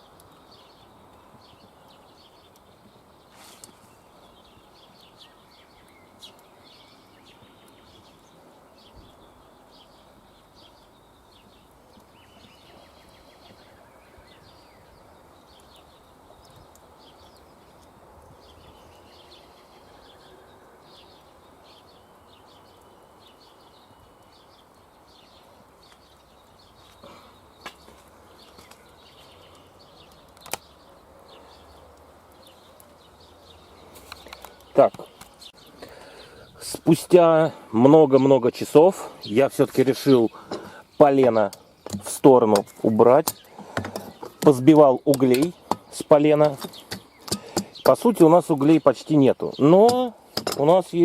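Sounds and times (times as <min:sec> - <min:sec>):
faint outdoor hiss: 0:00.0 - 0:51.0
songbirds chirping: 0:00.0 - 0:51.0.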